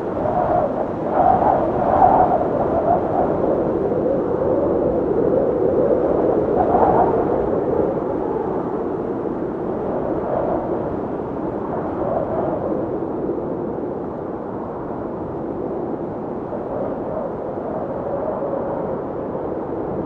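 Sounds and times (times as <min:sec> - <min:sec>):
howling blizzard wind: 0:00.0 - 0:20.0.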